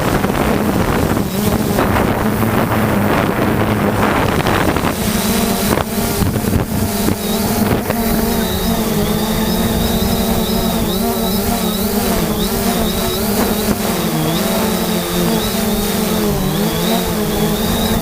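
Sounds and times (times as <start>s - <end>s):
drone motors and propellers: 0.0s - 18.0s
gusting wind on microphone: 0.0s - 18.0s.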